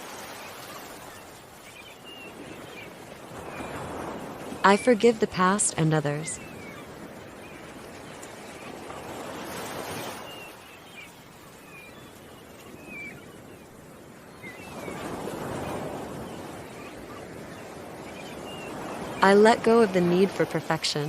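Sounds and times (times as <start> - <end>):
ocean waves washing in: 0.0 - 21.0.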